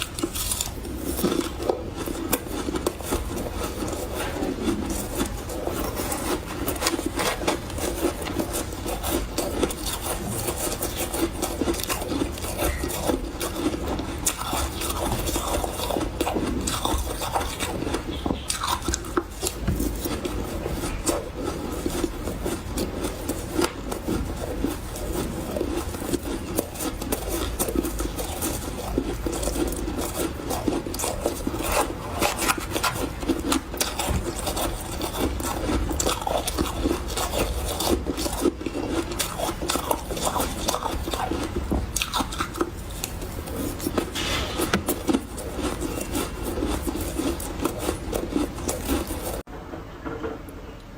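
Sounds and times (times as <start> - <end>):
person chewing crunchy ice: 0.0 - 49.5.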